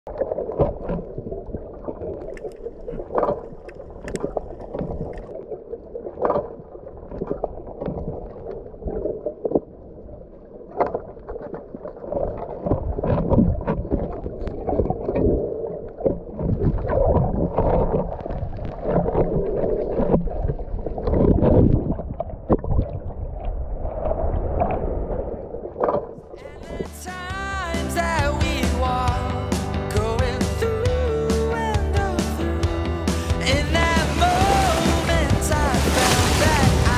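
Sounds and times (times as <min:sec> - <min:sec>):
water splashing and gurgling: 0:00.1 - 0:27.3, 0:32.3 - 0:36.9.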